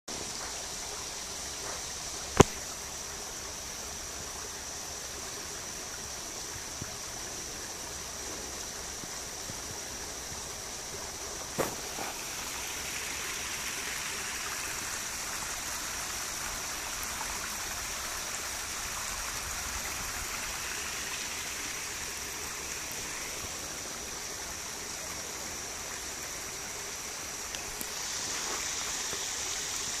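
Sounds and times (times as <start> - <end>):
stream running over stones: 0.1 - 30.0.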